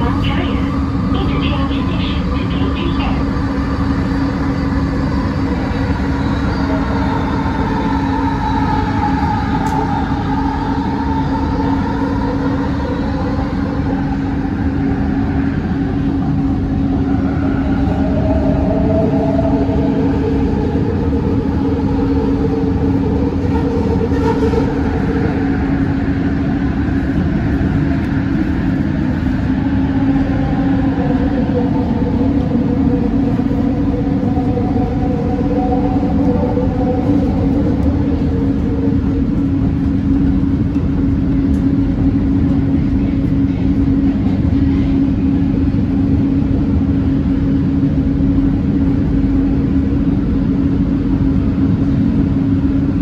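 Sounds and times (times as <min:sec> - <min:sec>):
constant hum: 0:00.0 - 0:53.0
train rumble: 0:00.0 - 0:53.0.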